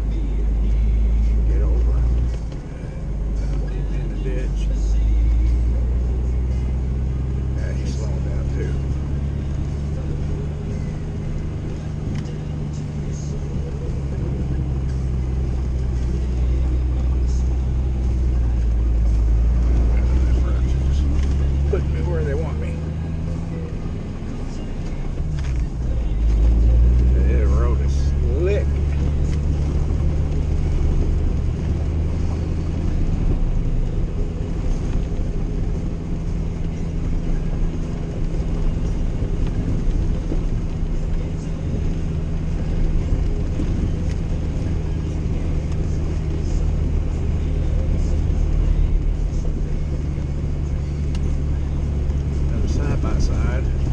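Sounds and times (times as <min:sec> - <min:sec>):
engine and tyres droning: 0:00.0 - 0:53.9.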